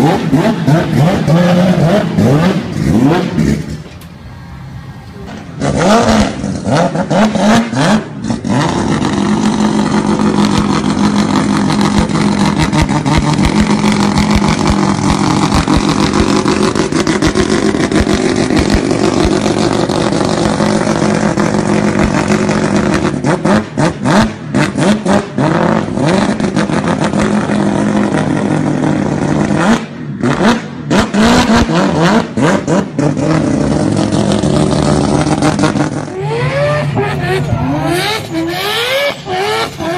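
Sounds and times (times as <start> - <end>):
car engine revving: 0.0 - 39.9
exhaust popping and crackling: 5.3 - 39.9.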